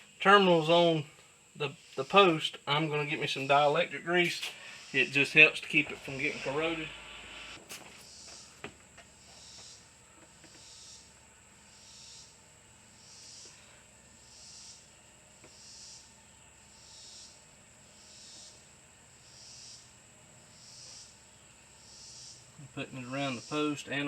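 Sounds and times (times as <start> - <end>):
insect chorus buzzing trill: 0.0 - 24.0.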